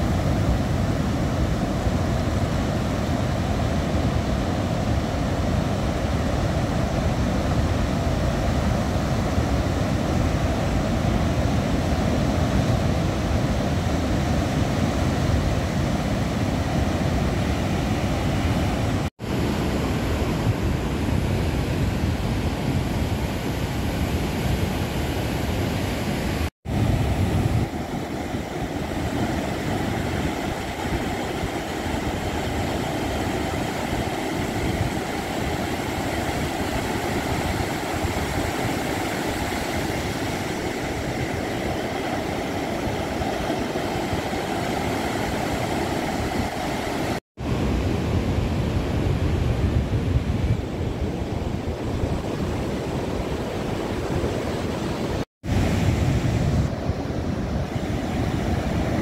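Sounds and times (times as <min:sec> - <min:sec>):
surf washing up a beach: 0:00.0 - 0:59.0
wind on microphone: 0:00.0 - 0:59.0.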